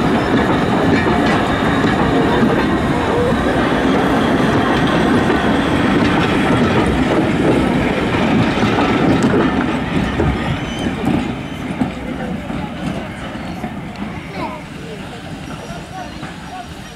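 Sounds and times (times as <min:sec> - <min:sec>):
train wheels clattering: 0:00.0 - 0:16.9.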